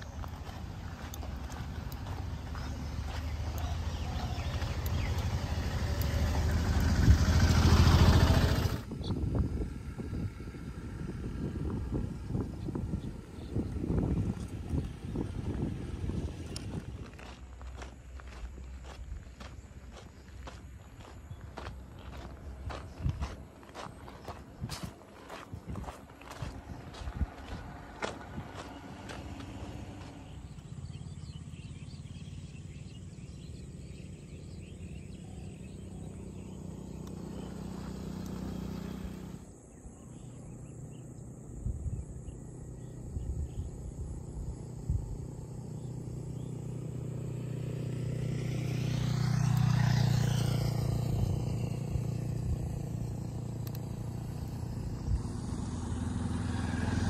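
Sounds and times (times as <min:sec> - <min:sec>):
vehicle passing by: 0:00.0 - 0:41.1, 0:42.2 - 0:57.0
vehicle engine running: 0:00.0 - 0:57.0.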